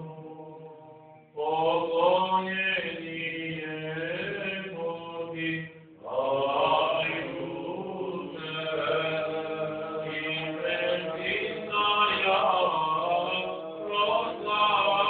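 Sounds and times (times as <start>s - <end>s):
men chanting: 1.4s - 15.0s.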